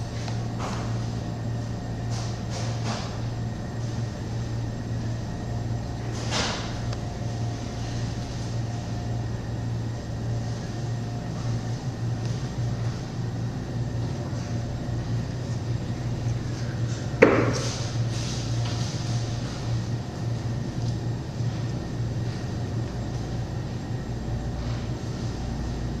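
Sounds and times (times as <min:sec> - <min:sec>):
machine humming: 0:00.0 - 0:26.0.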